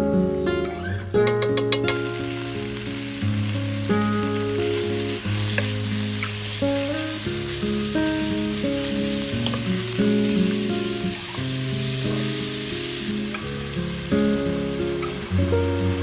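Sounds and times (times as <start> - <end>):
acoustic guitar music: 0.0 - 16.0
food sizzling in a pan: 0.0 - 16.0.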